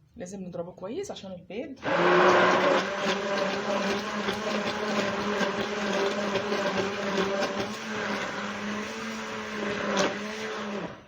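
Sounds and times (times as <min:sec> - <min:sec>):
electric mixer motor humming: 0:01.8 - 0:11.0.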